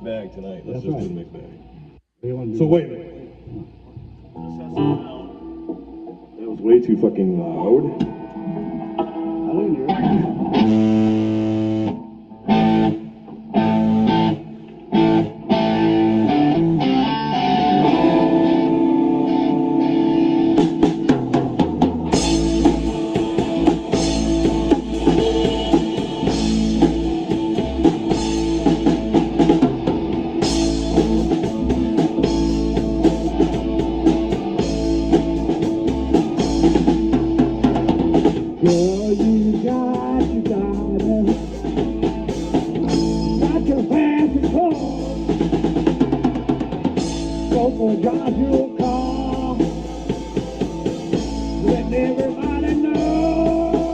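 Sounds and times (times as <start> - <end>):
rock band playing live: 3.7 - 6.6, 7.8 - 53.9.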